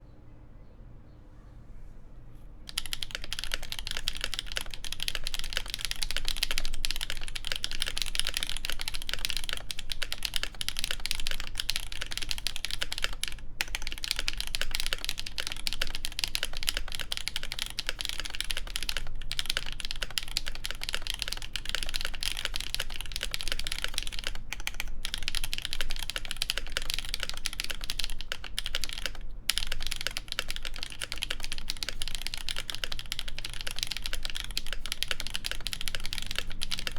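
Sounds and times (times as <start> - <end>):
fast typing on mechanical keyboard: 2.7 - 36.9.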